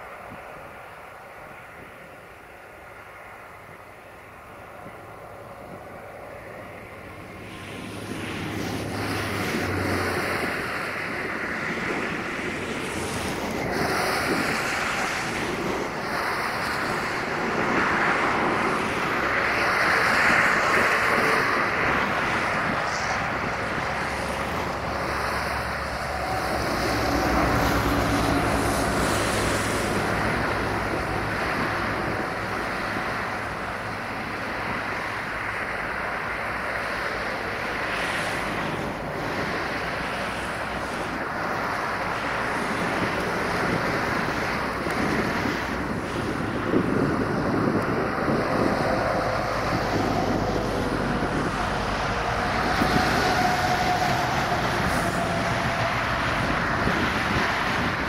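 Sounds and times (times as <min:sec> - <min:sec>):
distant jet engine rush: 0:00.0 - 0:58.0
wind on microphone: 0:00.0 - 0:58.0.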